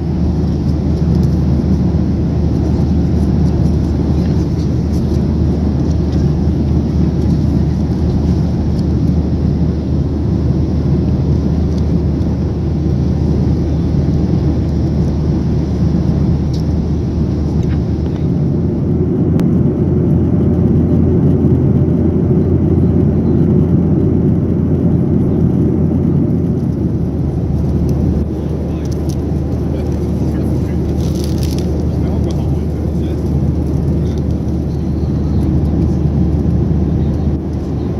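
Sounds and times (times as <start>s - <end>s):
jet engine rumble in cabin: 0.0s - 37.9s.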